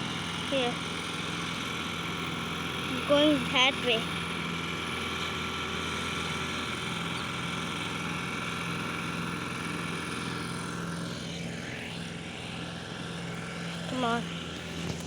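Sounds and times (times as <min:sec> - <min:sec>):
harvesting machine engine running: 0:00.0 - 0:15.0.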